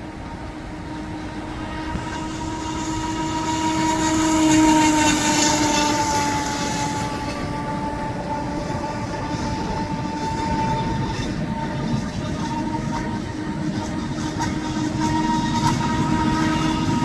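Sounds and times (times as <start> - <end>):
model boat motor whine: 0.0 - 17.0.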